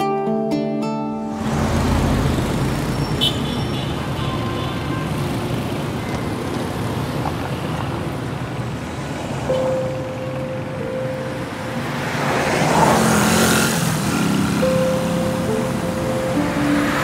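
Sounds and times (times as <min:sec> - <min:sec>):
road traffic rumble: 0:01.2 - 0:17.0.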